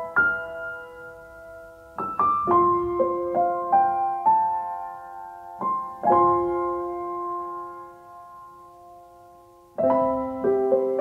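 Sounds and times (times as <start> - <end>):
gentle solo piano: 0.0 - 11.0.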